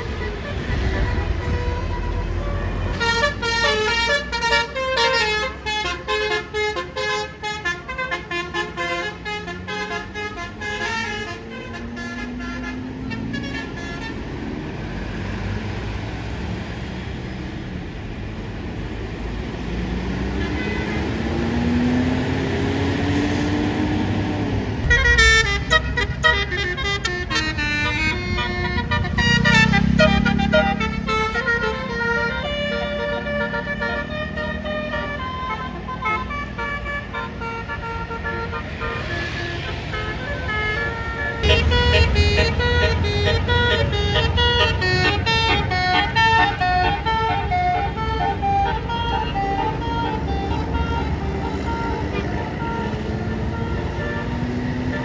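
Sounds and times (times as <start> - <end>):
air horn melody: 0.0 - 14.2, 24.8 - 55.0
bus engine accelerating: 0.0 - 55.0.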